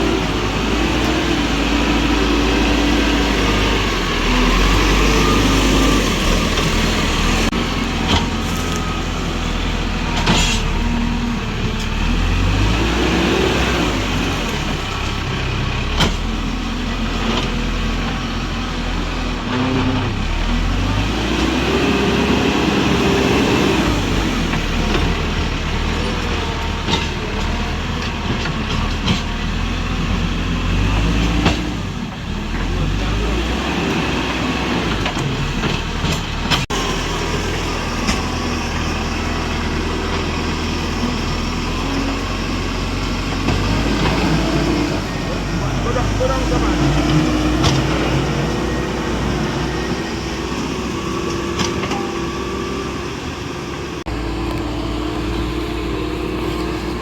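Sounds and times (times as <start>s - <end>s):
tractor engine revving: 0.0s - 57.0s.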